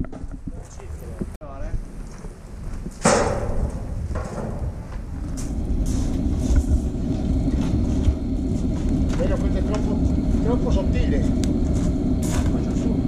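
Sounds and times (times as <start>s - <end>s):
low background rumble: 0.3s - 13.0s.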